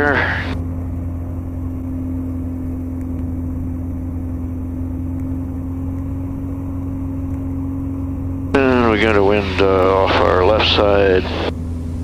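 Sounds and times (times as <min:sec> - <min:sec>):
aircraft engine and propeller droning: 0:00.0 - 0:12.0.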